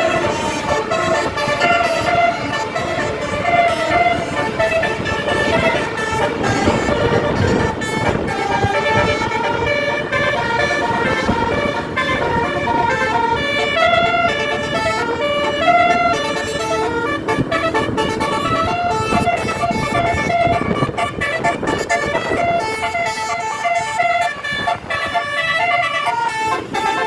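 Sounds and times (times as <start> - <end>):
bus horns playing a tune: 0.0 - 27.0
buses passing: 0.0 - 27.0.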